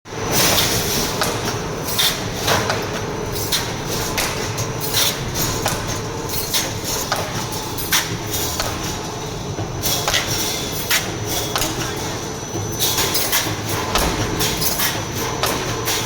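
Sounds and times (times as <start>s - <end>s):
welding machine hum: 0.1s - 16.0s
machine sharp clanks: 0.2s - 16.0s.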